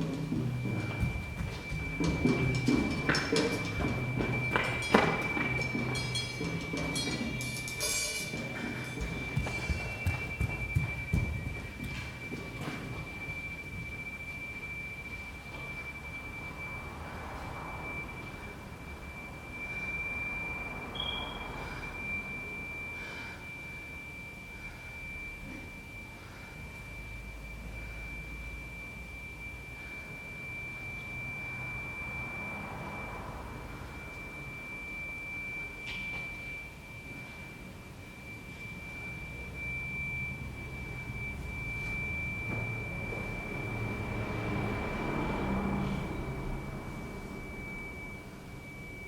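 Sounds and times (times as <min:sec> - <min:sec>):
high-pitched pure tone: 0:00.0 - 0:49.0.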